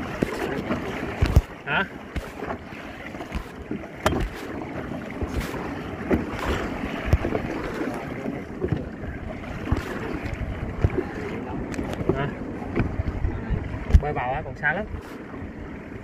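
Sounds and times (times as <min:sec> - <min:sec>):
water rushing and splashing: 0:00.0 - 0:16.0
wind buffeting microphone: 0:00.0 - 0:16.0.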